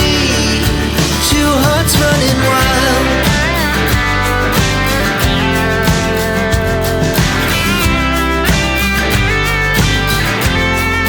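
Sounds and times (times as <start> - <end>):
pop-rock song: 0.0 - 11.0.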